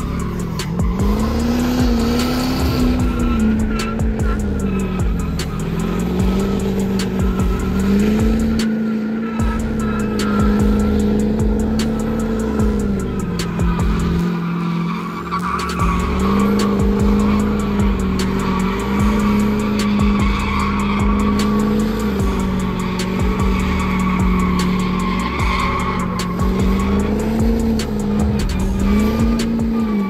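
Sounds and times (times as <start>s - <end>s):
truck engine revving high: 0.0s - 30.0s
tyres squealing: 0.0s - 30.0s.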